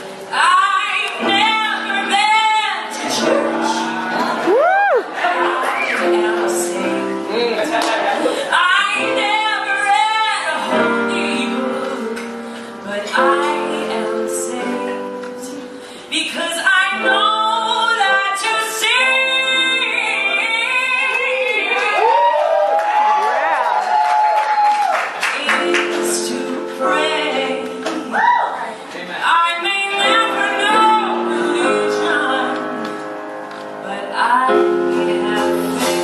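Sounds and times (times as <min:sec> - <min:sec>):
woman singing into a microphone: 0:00.3 - 0:22.4, 0:25.2 - 0:36.0.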